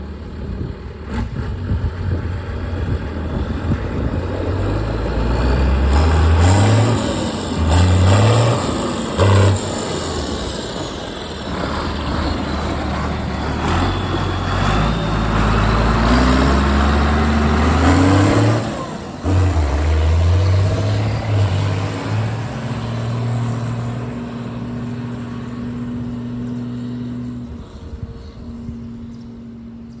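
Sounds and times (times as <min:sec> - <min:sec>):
tractor diesel engine revving: 0:00.0 - 0:27.6.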